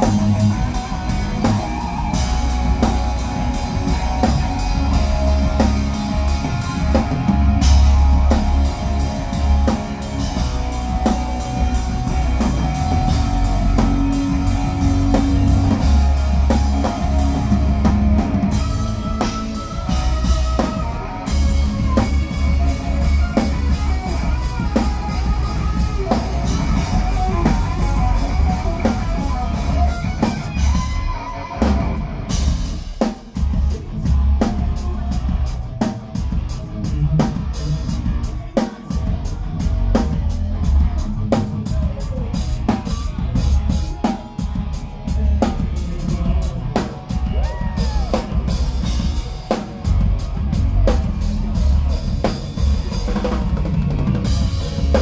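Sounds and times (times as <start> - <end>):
distorted electric guitars: 0.0 - 55.0
live hard rock band: 0.0 - 55.0.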